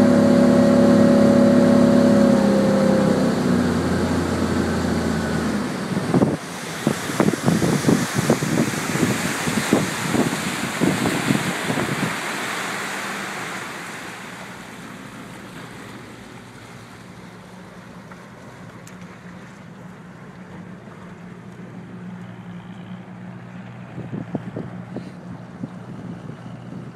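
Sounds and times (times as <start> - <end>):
boat engine low hum: 0.0 - 26.9
boat wake and wind rushing: 0.0 - 26.9.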